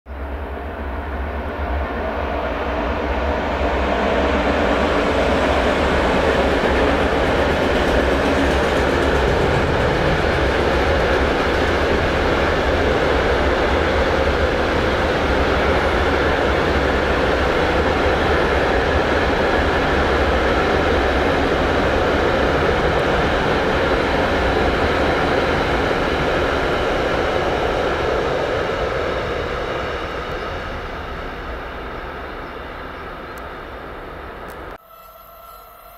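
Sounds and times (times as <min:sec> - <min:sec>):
freight train wheels rumbling on rail: 0:00.1 - 0:35.0.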